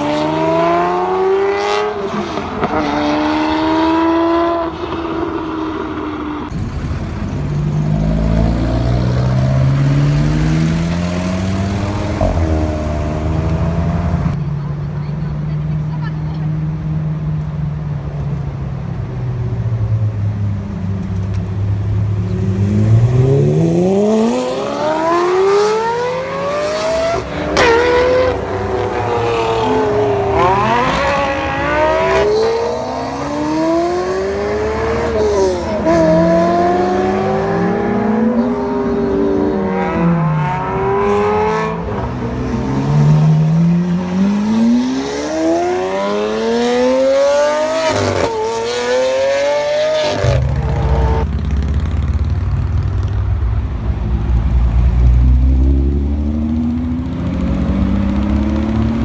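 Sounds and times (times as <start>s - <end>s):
car engines accelerating hard: 0.0s - 59.0s.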